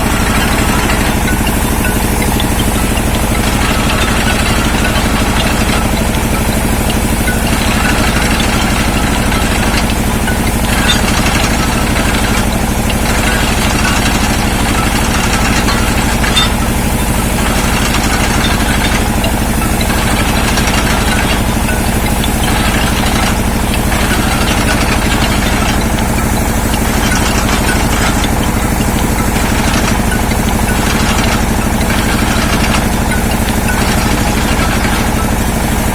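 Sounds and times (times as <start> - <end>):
drilling rig engine running: 0.0 - 35.9.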